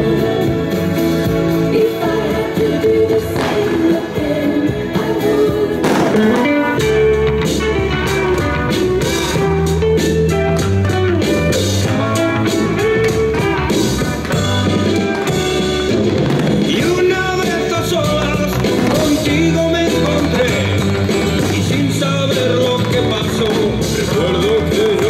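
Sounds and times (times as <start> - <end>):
music with guitar and drum beat: 0.0 - 25.0.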